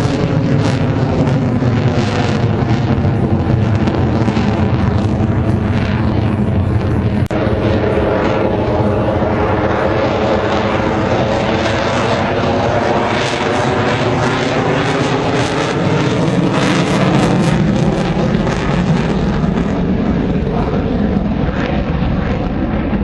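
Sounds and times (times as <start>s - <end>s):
propeller airplane engine running: 0.0s - 23.0s.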